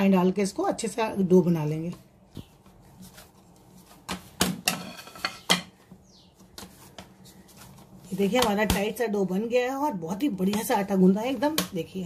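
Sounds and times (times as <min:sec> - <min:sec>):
hands kneading dough: 0:00.6 - 0:12.0.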